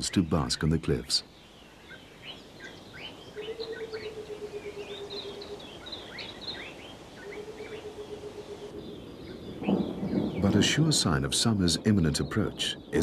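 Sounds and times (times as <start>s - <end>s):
small birds twittering: 0.0s - 13.0s.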